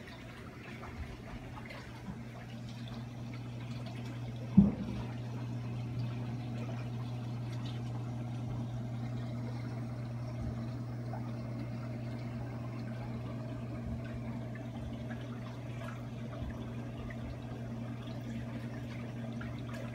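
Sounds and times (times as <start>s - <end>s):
aquarium pump hum: 0.0s - 19.9s
water trickling and pouring: 0.0s - 19.9s.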